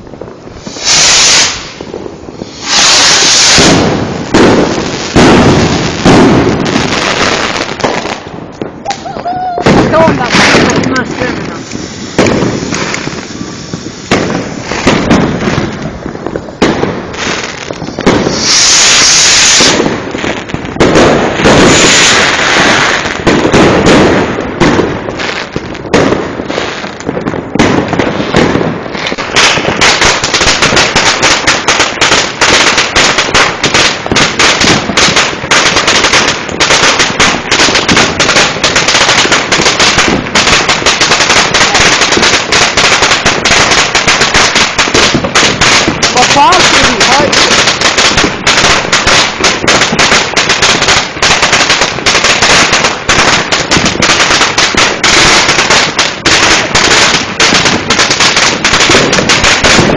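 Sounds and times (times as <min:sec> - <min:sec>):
fireworks bangs: 0:00.0 - 0:59.9
fireworks hissing: 0:00.0 - 0:59.9
rapid firecracker cracks: 0:00.6 - 0:59.9.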